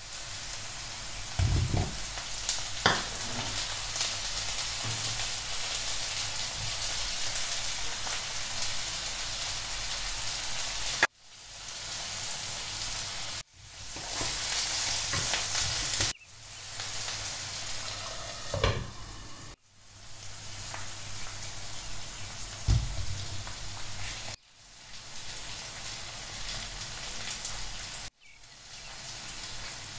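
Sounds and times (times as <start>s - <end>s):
potatoes and onions sizzling in a pan: 0.0s - 29.9s.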